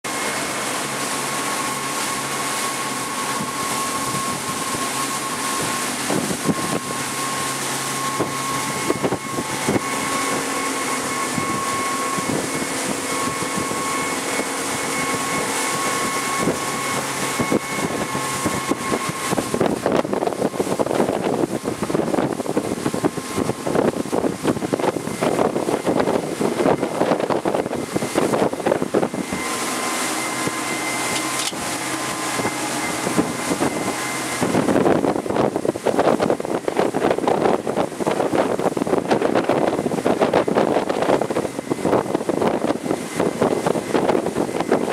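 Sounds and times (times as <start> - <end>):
boat engine running: 0.0 - 44.9
rushing wind and water: 0.0 - 44.9
wind buffeting microphone: 0.1 - 44.9.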